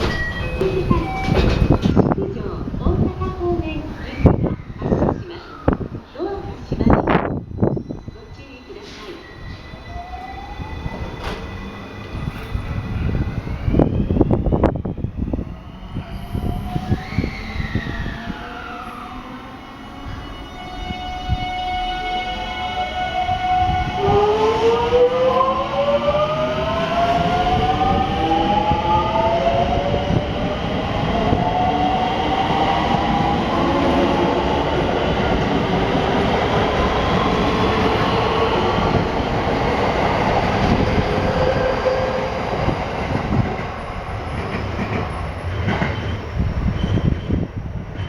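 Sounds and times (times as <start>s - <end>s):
rumble of wheels on rail: 0.0s - 48.0s.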